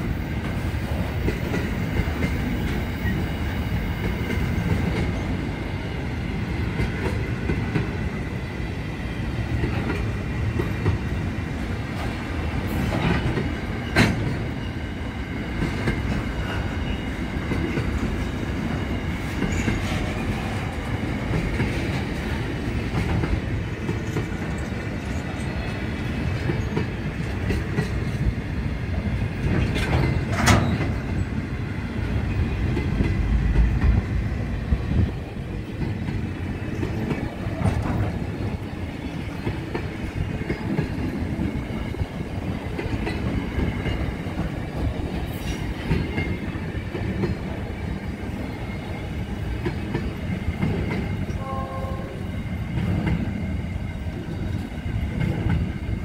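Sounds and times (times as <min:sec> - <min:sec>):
steel wheels rumbling on rail: 0:00.0 - 0:56.0.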